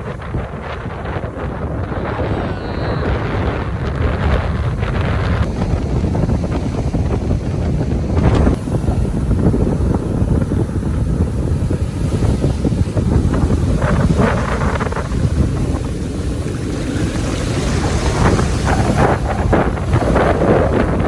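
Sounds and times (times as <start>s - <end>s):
surf breaking: 0.0s - 21.0s
wind buffeting microphone: 0.0s - 21.0s.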